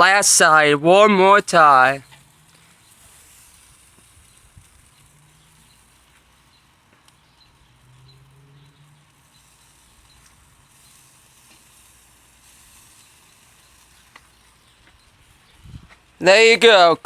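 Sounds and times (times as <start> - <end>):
meat sizzling on a grill: 0.0 - 16.2.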